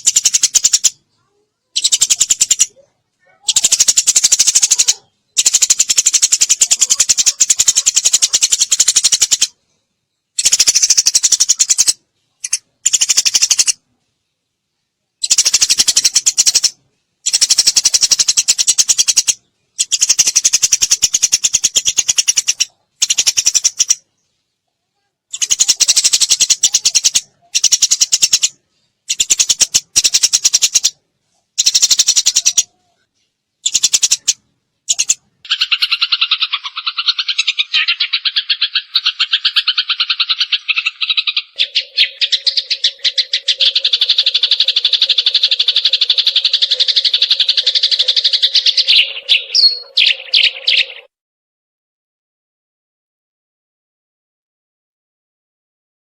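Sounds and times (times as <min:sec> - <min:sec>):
sparrows chirping: 0:00.0 - 0:13.8, 0:15.2 - 0:24.5, 0:25.3 - 0:51.1.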